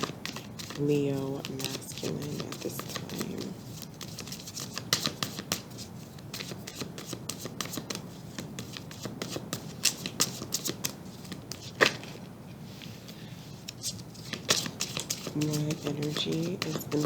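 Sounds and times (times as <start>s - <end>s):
cards being shuffled: 0.0s - 17.0s.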